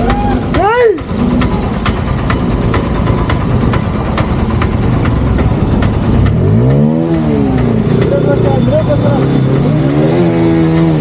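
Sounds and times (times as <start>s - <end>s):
motorcycle engine running slowly: 0.0s - 9.2s.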